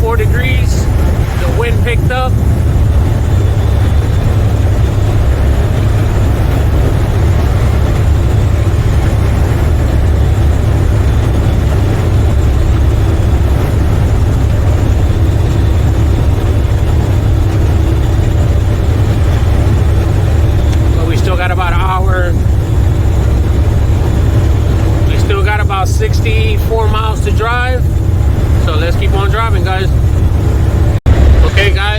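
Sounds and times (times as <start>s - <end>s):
truck cab road rumble: 0.0s - 31.9s.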